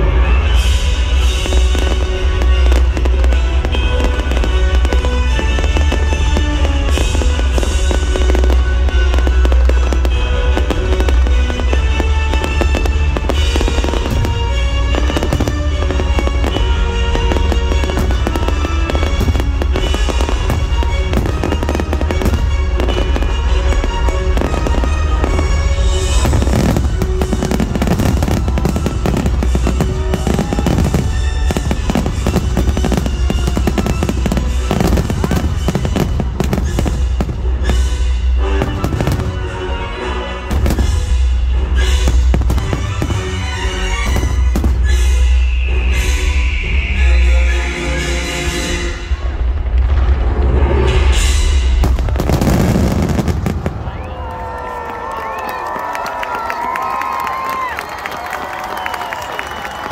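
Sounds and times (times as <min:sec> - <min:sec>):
fireworks bursting and crackling: 0:00.0 - 0:47.1, 0:48.6 - 0:59.9.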